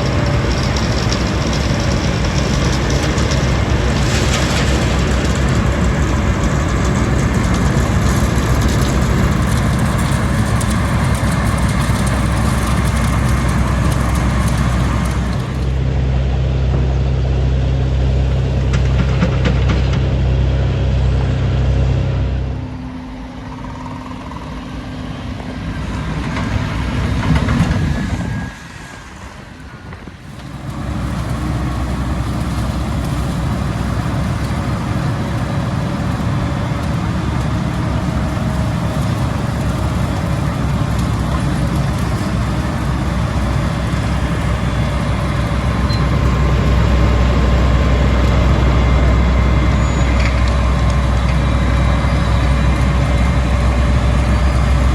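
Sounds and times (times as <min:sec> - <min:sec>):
heavy diesel engines droning: 0:00.0 - 0:54.9.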